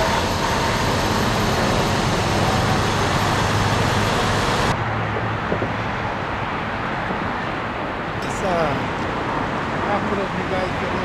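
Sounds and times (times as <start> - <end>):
freeway traffic noise: 0.0 - 11.0.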